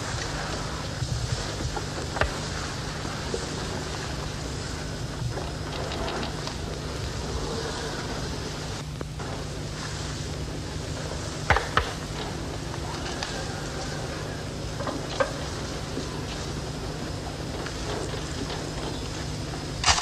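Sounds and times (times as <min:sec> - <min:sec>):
television recording hiss and hum: 0:00.0 - 0:20.0.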